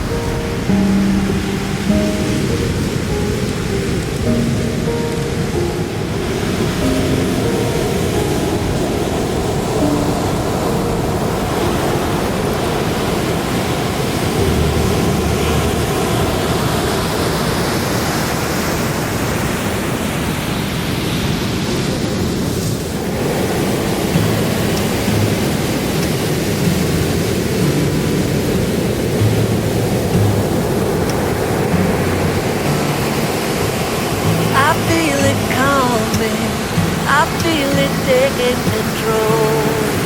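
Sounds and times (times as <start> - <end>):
wind buffeting microphone: 0.0 - 37.6
ocean surf washing ashore: 0.0 - 40.0.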